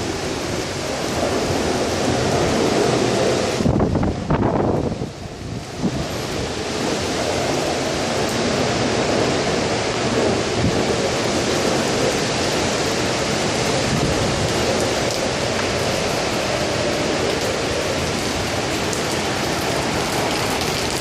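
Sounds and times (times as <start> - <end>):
driving rain: 0.0 - 21.0
strong wind: 0.0 - 21.0.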